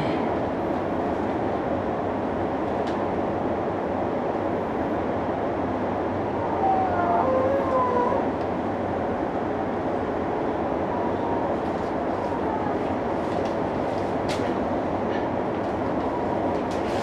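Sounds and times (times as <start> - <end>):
train rumble from cab: 0.0 - 17.0.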